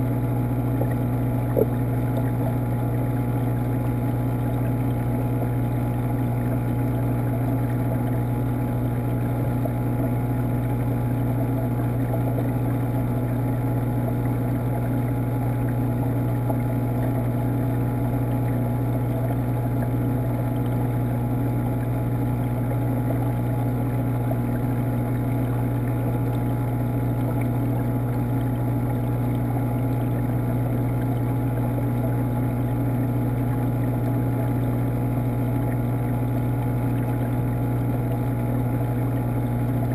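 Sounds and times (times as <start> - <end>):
aquarium pump hum underwater: 0.0 - 39.9
muffled rush of water: 0.0 - 39.9.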